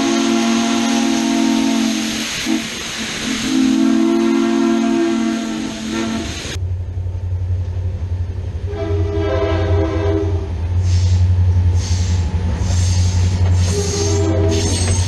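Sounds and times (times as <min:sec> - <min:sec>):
locomotive air horn blast: 0:00.0 - 0:06.6, 0:08.7 - 0:14.9
diesel locomotive engine rumble: 0:00.0 - 0:15.0.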